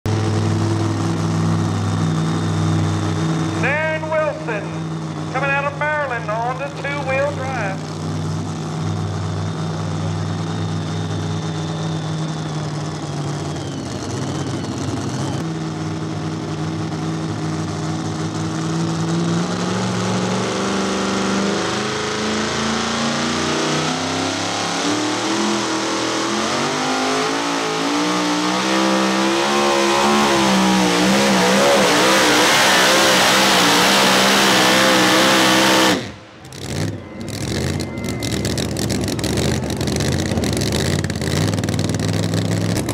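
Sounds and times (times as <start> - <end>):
big engine revving: 0.1 - 42.9.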